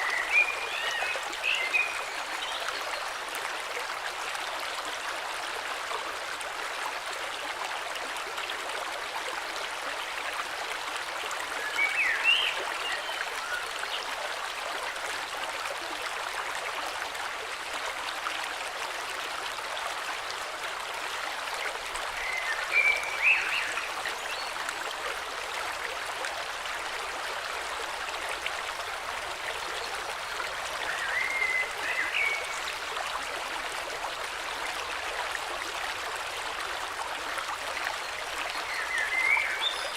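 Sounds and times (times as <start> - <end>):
flowing river: 0.0 - 39.9.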